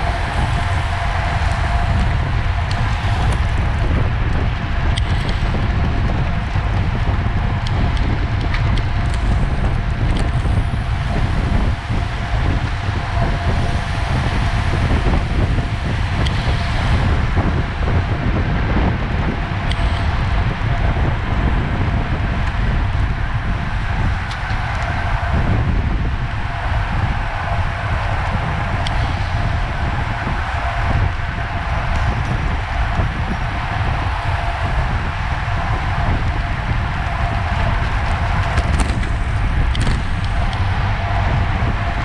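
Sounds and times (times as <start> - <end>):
rushing road noise: 0.0 - 42.0
wind buffeting microphone: 0.0 - 42.0.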